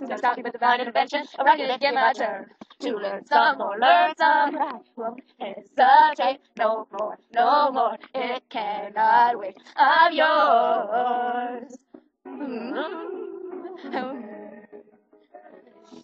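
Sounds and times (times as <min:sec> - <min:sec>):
girls singing unaccompanied: 0:00.0 - 0:14.6.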